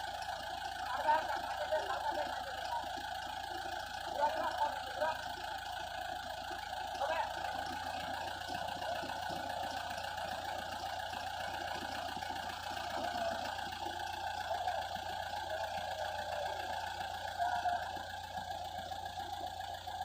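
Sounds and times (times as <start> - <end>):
engine idling with rapid knock: 0.0 - 20.0.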